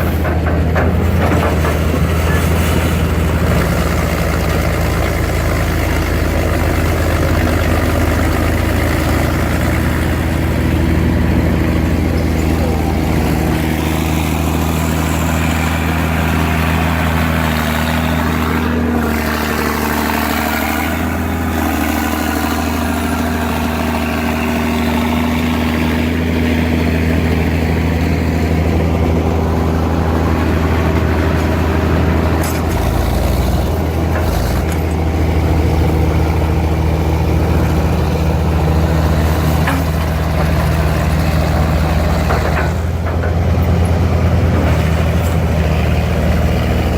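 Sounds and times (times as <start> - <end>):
heavy engine running: 0.0 - 46.9.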